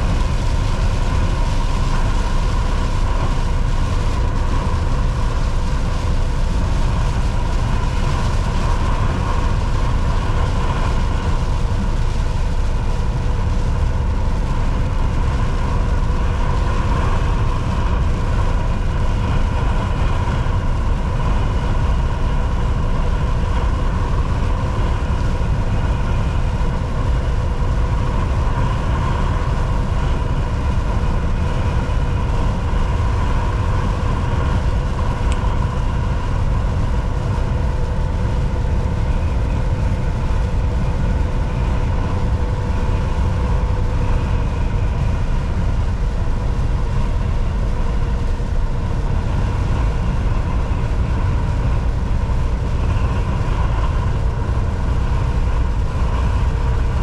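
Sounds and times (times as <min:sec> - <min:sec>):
faint steady whine: 0:00.0 - 0:57.0
road noise: 0:00.0 - 0:57.0
truck engine drone: 0:00.0 - 0:57.0.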